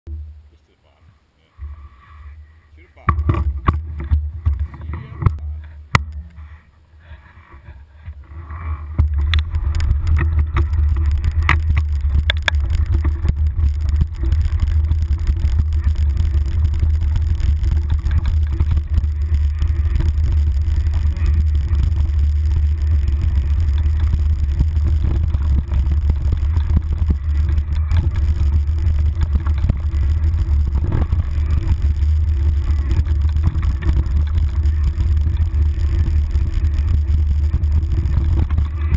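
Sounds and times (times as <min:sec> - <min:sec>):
wind and trail vibration rumble: 0:01.2 - 0:38.9
bike clicks and knocks: 0:07.3 - 0:38.9.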